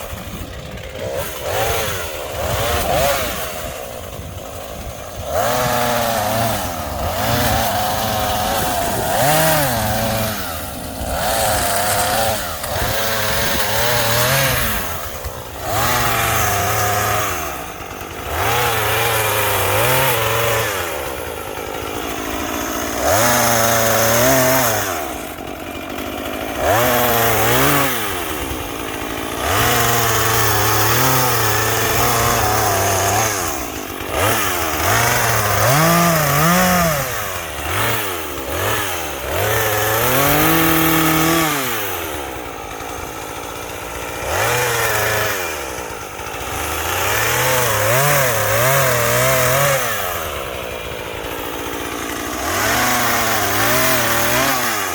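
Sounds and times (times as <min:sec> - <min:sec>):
chainsaw revving: 0:00.0 - 0:54.9.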